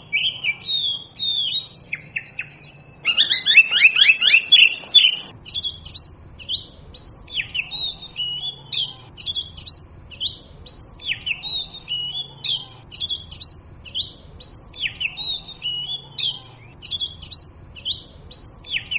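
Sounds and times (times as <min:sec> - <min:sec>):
bird singing whistled notes: 0:00.0 - 0:18.9.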